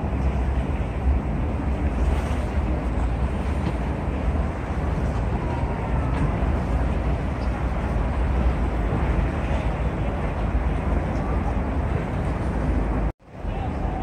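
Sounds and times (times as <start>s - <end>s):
ferry engines rumbling: 0.0s - 14.0s.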